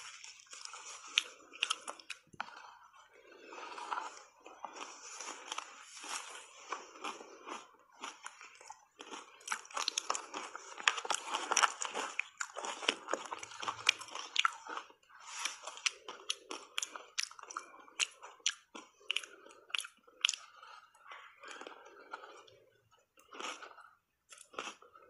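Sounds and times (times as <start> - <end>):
chewing crunchy shaved ice: 0.0 - 25.0.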